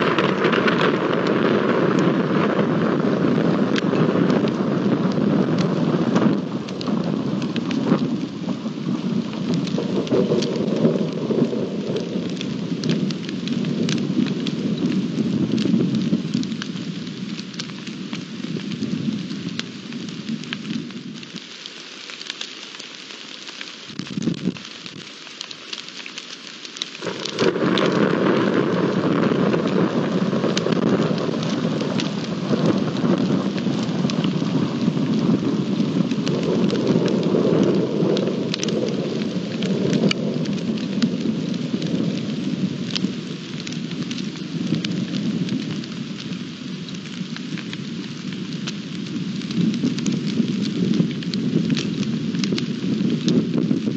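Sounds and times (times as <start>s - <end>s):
low rumble of thunder: 0.0s - 21.0s, 27.0s - 53.9s
steady rain falling: 0.0s - 53.9s.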